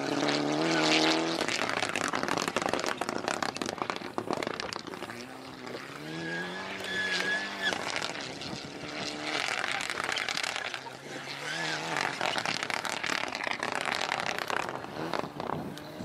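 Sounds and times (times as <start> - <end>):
car engine revving: 0.0 - 16.0
gravel rattling: 0.0 - 16.0.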